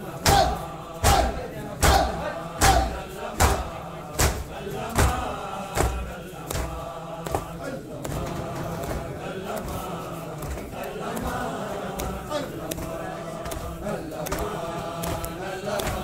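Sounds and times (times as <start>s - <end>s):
crowd of men chanting: 0.0s - 16.0s
rhythmic chest-beating slaps: 0.0s - 16.0s.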